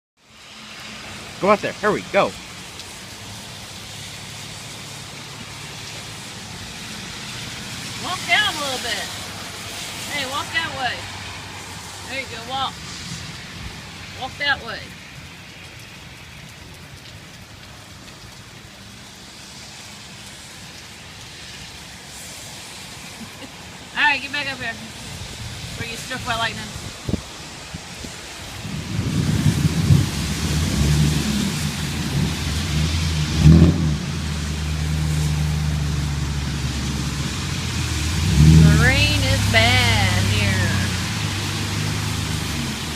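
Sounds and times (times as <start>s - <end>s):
heavy rain hissing: 0.2s - 42.9s.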